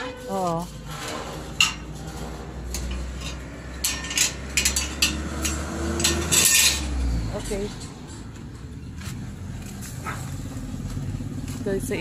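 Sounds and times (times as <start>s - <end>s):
metallic clinks and knocks: 0.0s - 9.8s
van engine rumble: 0.1s - 12.0s.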